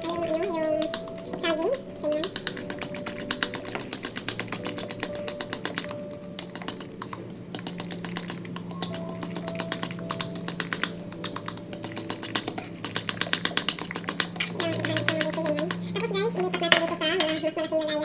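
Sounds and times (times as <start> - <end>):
fork tapping against bowl: 0.2 - 15.8.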